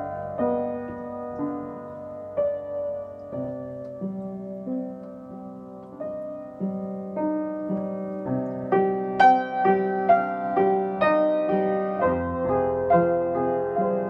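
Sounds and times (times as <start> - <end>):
upright piano chords: 0.0 - 14.0.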